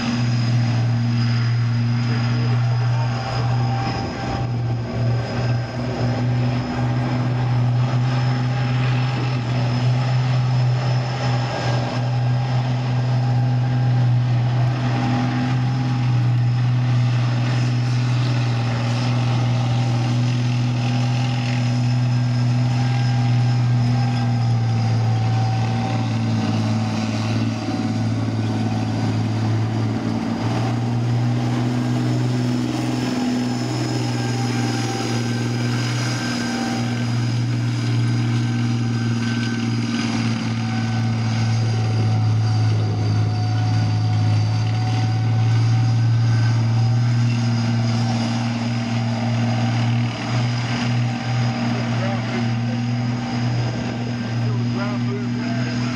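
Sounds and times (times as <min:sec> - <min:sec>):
high engine whine: 0:00.0 - 0:55.9
tracked vehicle engine droning: 0:00.0 - 0:55.9.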